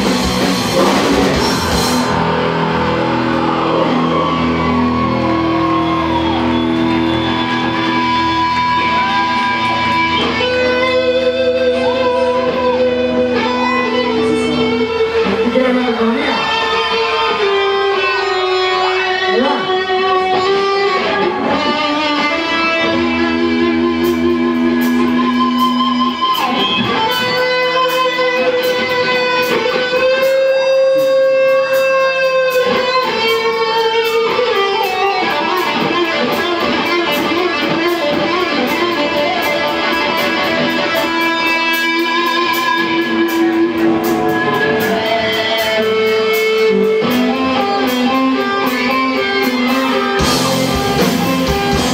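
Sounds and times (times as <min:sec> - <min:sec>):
electric guitar held notes: 0:00.0 - 0:51.9
rock band playing: 0:00.0 - 0:51.9.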